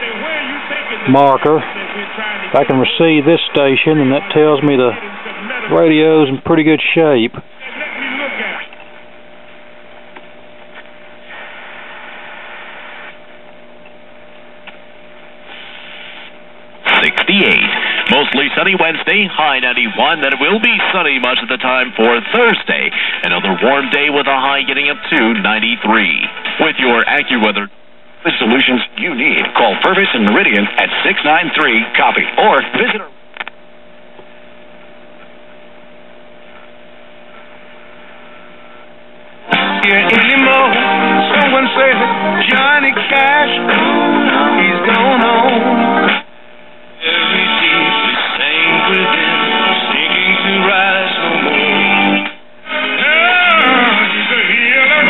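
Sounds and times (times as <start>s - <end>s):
radio static hiss: 0.0s - 55.0s
steady radio hum: 0.0s - 55.0s.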